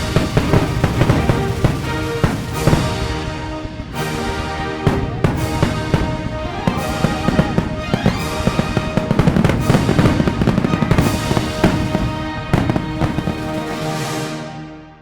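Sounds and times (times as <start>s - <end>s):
fireworks bangs and crackles: 0.0s - 14.4s
background music: 0.0s - 15.0s.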